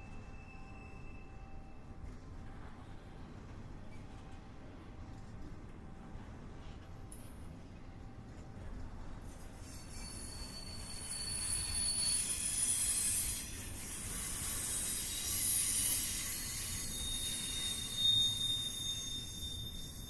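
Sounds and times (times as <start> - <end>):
low rumble of rolling train: 0.0 - 20.0
train wheels squealing on rails: 0.0 - 20.0.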